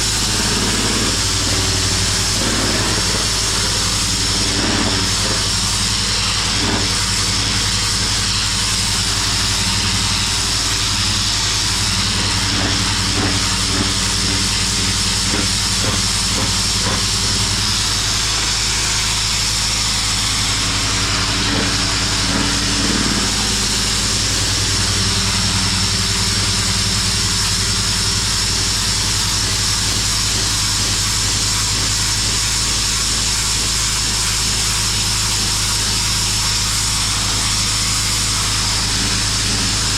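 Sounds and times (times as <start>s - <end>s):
engine-like hum: 0.0s - 39.9s
water jet hissing on concrete: 0.0s - 39.9s.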